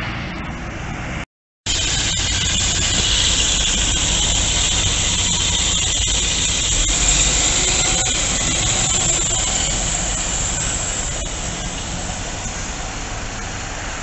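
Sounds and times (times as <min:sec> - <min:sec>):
bus engine rumble: 0:00.0 - 0:14.0
tyre and road hiss: 0:00.0 - 0:14.0.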